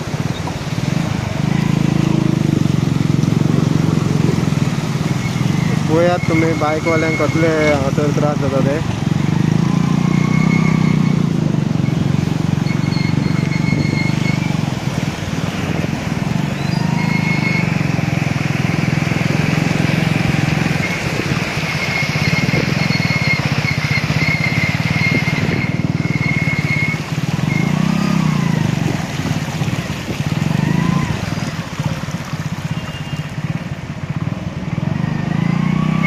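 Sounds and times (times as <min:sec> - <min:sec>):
water spray rushing: 0:00.0 - 0:33.9
wind: 0:00.0 - 0:36.0.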